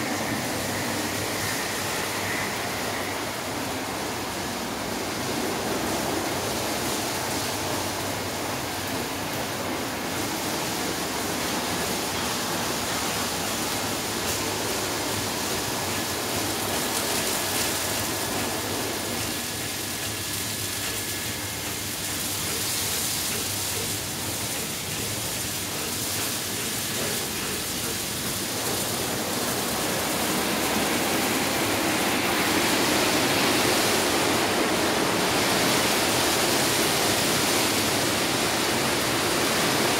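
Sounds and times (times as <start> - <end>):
water spraying: 0.0 - 39.9.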